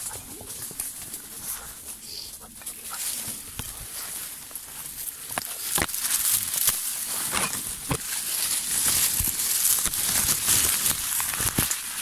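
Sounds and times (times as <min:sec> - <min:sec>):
leaves and branches swishing: 0:00.0 - 0:12.0
twigs crackling and snapping: 0:00.0 - 0:12.0.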